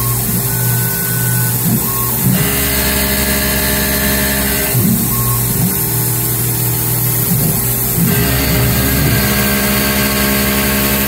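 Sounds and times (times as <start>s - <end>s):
milling machine whine: 0.0s - 11.0s.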